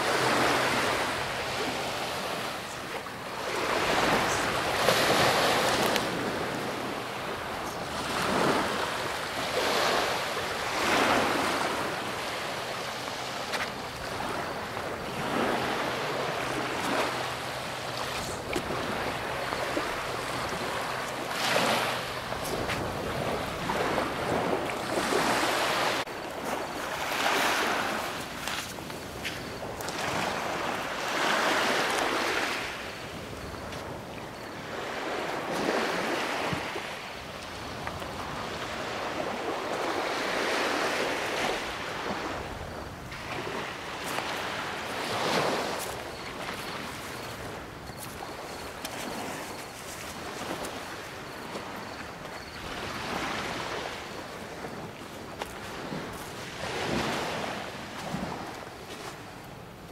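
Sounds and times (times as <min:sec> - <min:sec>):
wind buffeting microphone: 0:00.0 - 0:59.7
sea waves washing in: 0:00.0 - 0:59.9.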